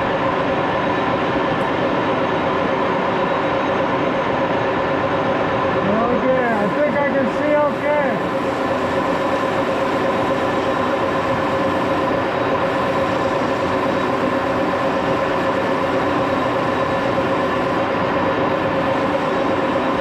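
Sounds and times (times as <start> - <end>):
gear whine: 0.0 - 20.0
lathe machine drone: 0.0 - 20.0.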